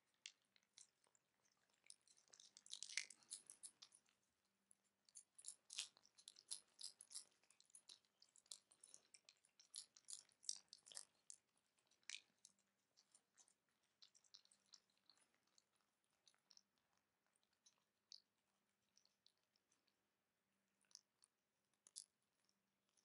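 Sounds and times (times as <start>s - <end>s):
cats licking and chewing: 0.0s - 23.0s.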